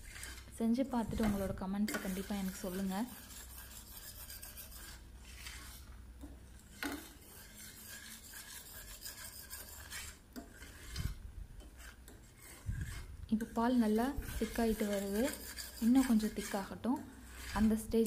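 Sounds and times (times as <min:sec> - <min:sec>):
metal spoon scraping pan: 0:00.0 - 0:06.0, 0:06.6 - 0:18.0.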